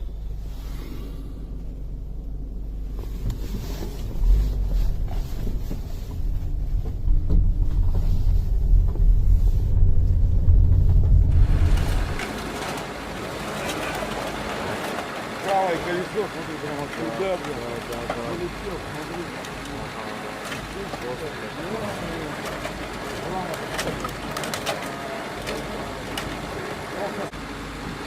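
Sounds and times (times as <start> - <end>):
car road and wind noise: 0.0 - 28.0.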